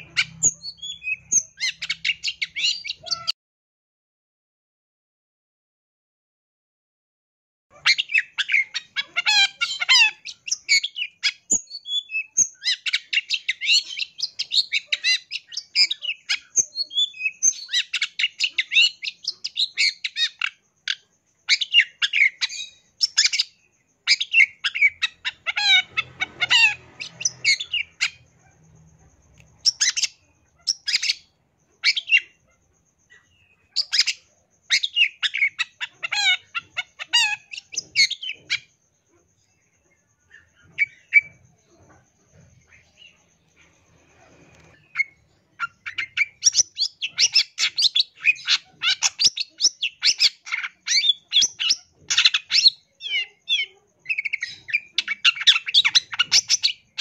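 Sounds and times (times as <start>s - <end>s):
bird chattering song: 0.0s - 3.4s, 7.7s - 57.0s.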